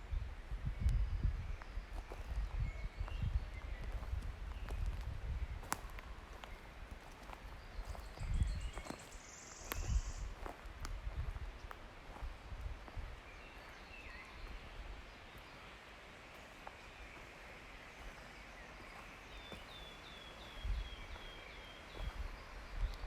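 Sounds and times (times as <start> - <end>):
faint steady hiss: 0.0 - 23.0
songbird singing: 0.0 - 23.0.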